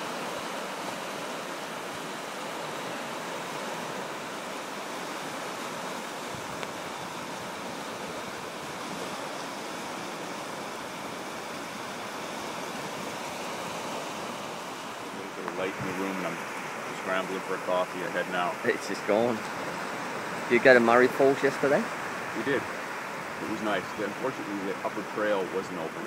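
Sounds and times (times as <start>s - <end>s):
waves breaking on a beach: 0.0s - 26.0s.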